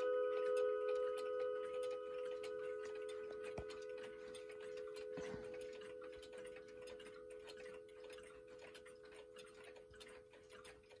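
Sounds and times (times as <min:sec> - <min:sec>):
pendulum clocks ticking: 0:00.0 - 0:11.0.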